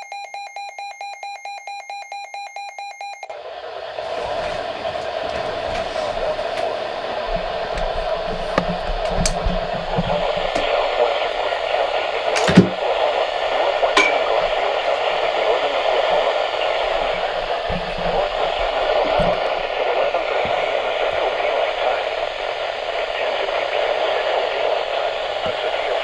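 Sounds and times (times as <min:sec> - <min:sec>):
radio static hiss: 0:03.3 - 0:26.0
sharp radio crackles: 0:03.3 - 0:26.0.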